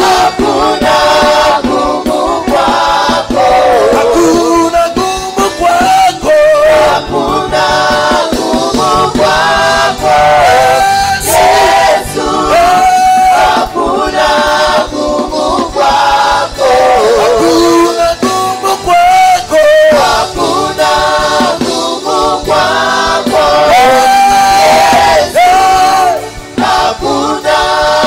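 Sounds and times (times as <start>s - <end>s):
choir voices: 0.0s - 28.0s
person singing with vibrato: 0.0s - 28.0s.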